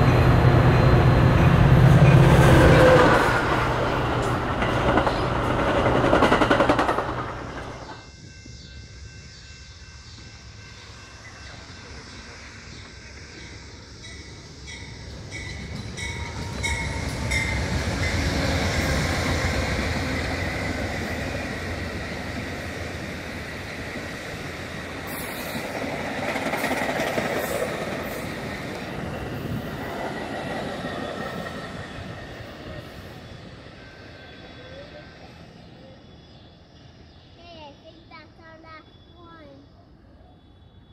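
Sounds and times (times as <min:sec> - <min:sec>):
train wheels on rails: 0:00.0 - 0:38.6.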